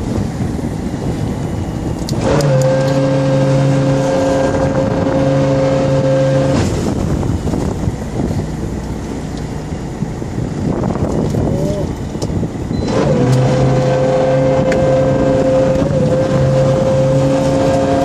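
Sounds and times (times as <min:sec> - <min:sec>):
boat engine: 0:00.0 - 0:18.0
wind noise: 0:00.0 - 0:18.0.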